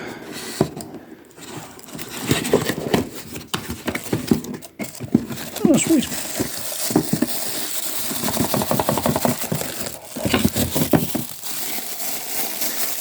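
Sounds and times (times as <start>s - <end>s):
plastic packaging crinkling: 1.4s - 13.0s.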